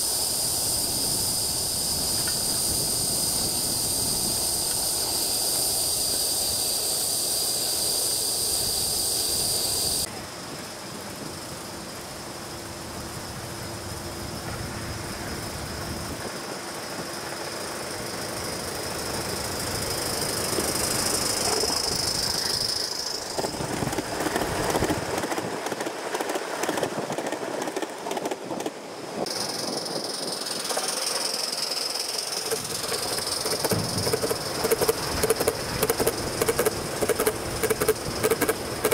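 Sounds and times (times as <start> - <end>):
steam locomotive wheels squealing: 0.0 - 10.1, 14.4 - 38.9.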